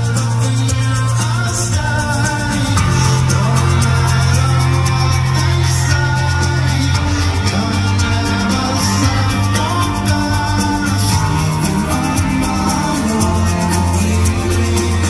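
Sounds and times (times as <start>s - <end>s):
electric guitars: 0.0s - 15.0s
held bass notes: 0.0s - 15.0s.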